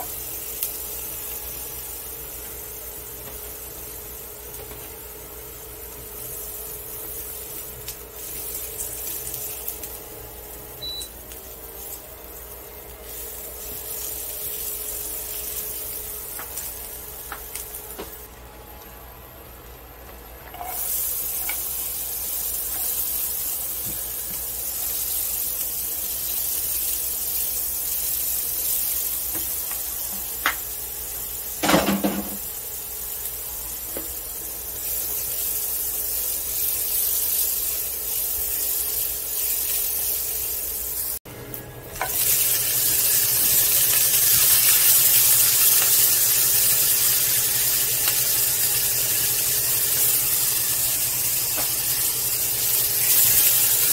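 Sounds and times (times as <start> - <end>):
vegetables sizzling in a frying pan: 0.0 - 18.4, 20.4 - 53.9.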